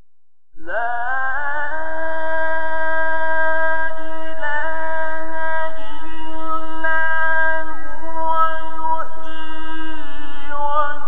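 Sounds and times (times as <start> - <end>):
man chanting melodic recitation: 0.7 - 11.0.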